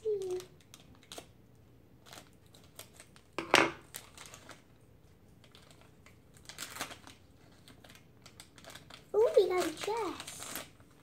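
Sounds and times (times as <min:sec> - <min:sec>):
plastic bag crinkling: 0:00.0 - 0:04.8, 0:05.4 - 0:11.0.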